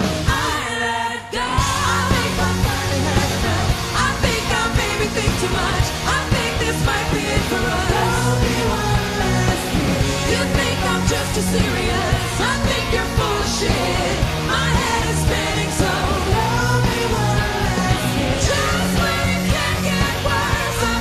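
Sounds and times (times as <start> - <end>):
backing singers: 0.0 - 21.0
bass guitar: 0.0 - 21.0
drums: 0.0 - 21.0
woman singing lead: 0.0 - 21.0.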